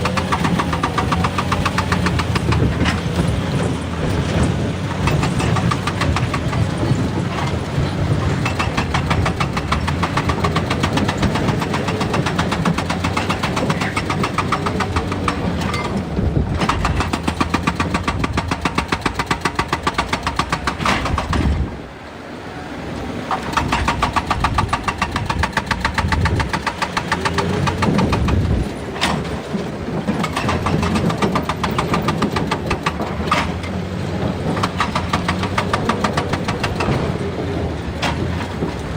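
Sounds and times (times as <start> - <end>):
excavator diesel engine pulsing: 0.0 - 38.9.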